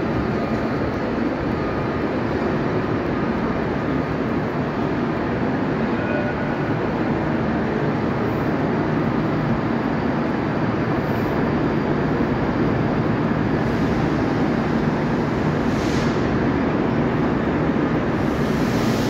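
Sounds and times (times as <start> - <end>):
station platform rumble: 0.0 - 19.0
trains running on tracks: 0.0 - 19.0.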